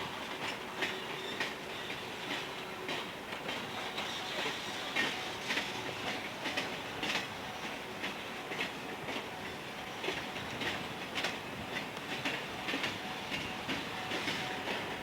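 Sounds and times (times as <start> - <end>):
railroad cars rumbling on rails: 0.0 - 15.0.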